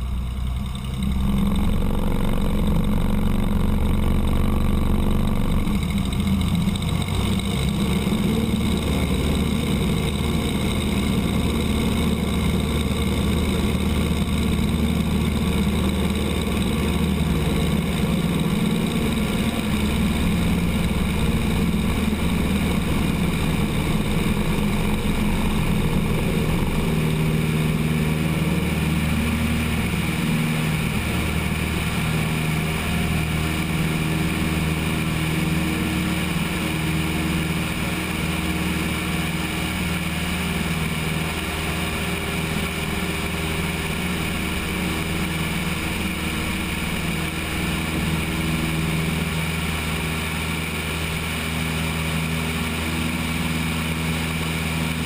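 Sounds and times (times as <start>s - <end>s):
piston aircraft engine: 0.0s - 55.0s.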